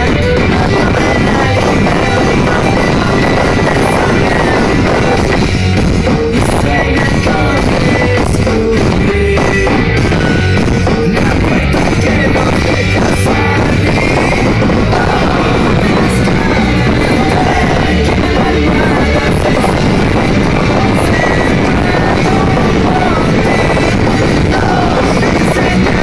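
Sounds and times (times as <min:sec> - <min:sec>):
drums: 0:00.0 - 0:26.0
electric guitars: 0:00.0 - 0:26.0.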